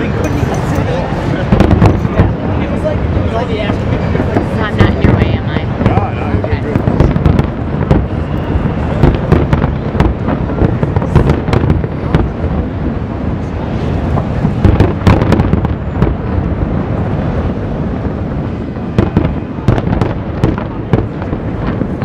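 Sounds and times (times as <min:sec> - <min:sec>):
distant fireworks bursting: 0:00.0 - 0:22.0.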